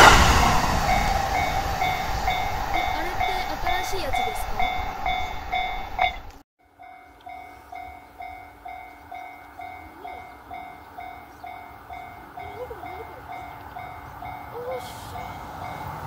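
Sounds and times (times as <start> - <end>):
electric train rumbling on rails: 0.0 - 16.0
level crossing bell ringing: 2.3 - 16.0.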